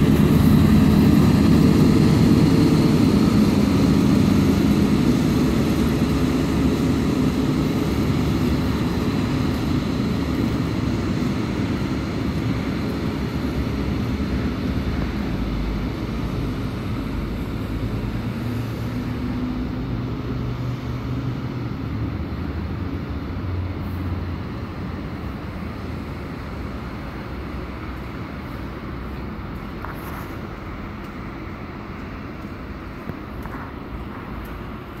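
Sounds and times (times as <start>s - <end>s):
train rumbling along track: 0.0s - 35.0s.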